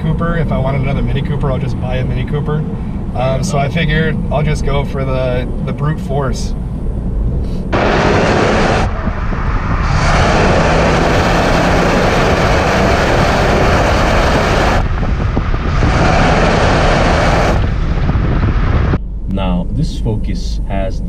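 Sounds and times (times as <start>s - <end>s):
low engine and exhaust tone: 0.0s - 21.0s
wind and road noise: 0.0s - 21.0s.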